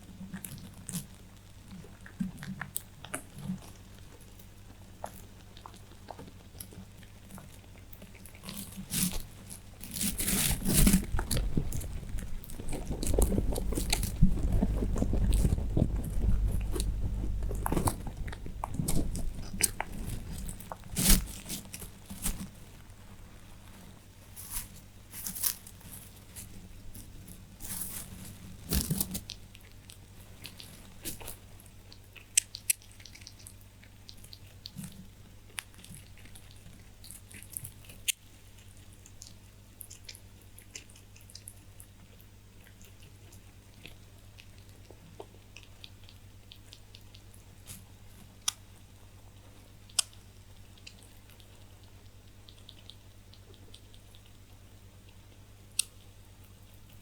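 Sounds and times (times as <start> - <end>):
faint low hum: 0.0 - 57.0
rabbits chewing hay: 0.0 - 57.0.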